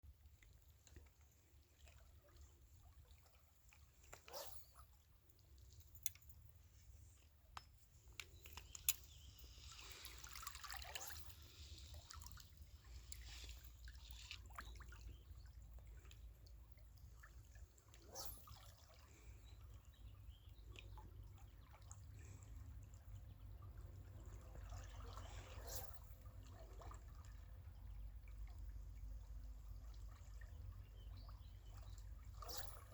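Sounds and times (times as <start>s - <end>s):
water trickling and splashing: 0.0s - 32.9s.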